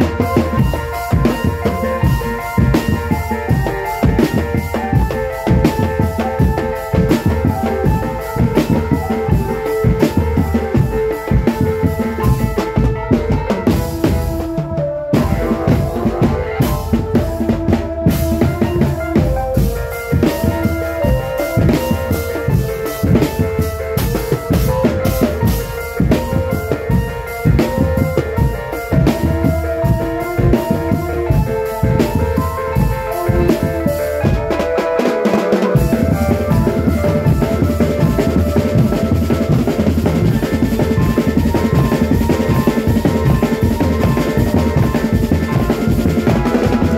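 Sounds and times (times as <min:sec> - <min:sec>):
bass drums: 0:00.0 - 0:35.0, 0:35.6 - 0:46.9
melody on pitched instruments: 0:00.0 - 0:46.9
snare drums: 0:00.0 - 0:46.9.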